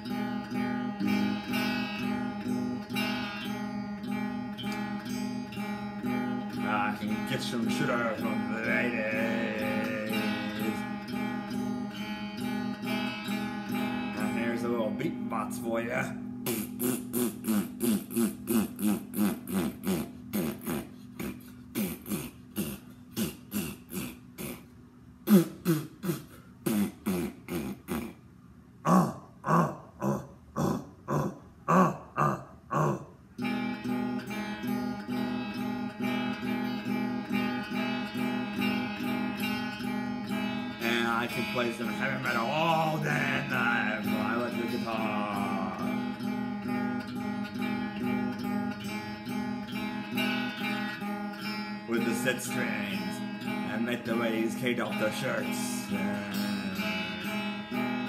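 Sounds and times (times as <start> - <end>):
electric guitar strumming: 0.0 - 24.3, 33.3 - 58.0.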